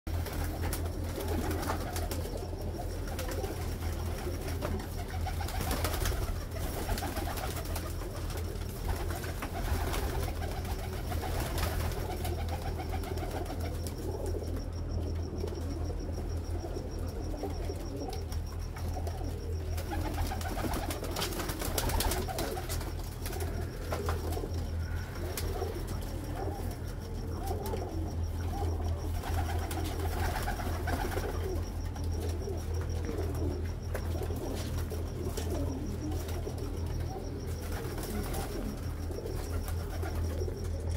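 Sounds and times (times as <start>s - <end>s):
pigeon wing flap: 0.1s - 14.6s, 17.4s - 40.9s
pigeons cooing: 0.1s - 40.9s
steady low hum: 0.1s - 40.9s.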